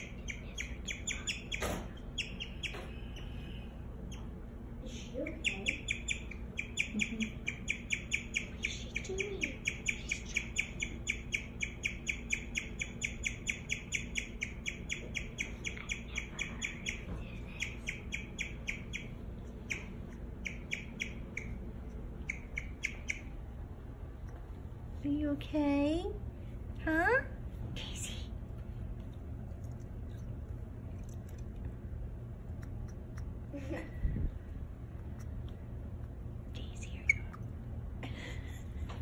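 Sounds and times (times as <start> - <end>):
guinea pig chirping: 0.0 - 24.4, 28.1 - 33.8, 34.8 - 37.8.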